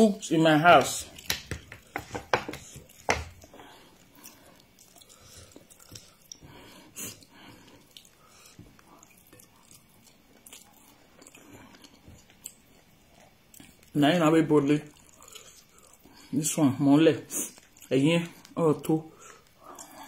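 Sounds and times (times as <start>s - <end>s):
person chewing rice: 0.7s - 14.0s, 14.8s - 16.4s, 17.2s - 20.0s.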